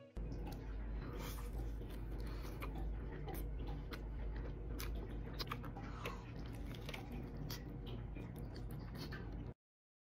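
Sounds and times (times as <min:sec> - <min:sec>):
person chewing food: 0:00.2 - 0:09.6.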